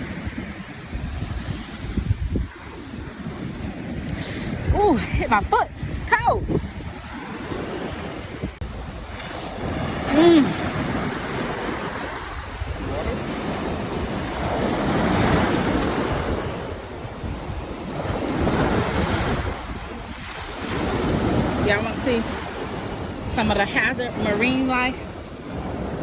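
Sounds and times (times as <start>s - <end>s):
small waves breaking on shore: 0.0s - 26.0s
wind buffeting microphone: 0.0s - 26.0s.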